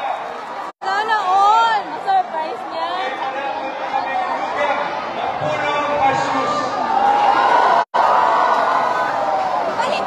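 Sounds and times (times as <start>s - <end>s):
crowd cheering and chattering: 0.0s - 10.0s.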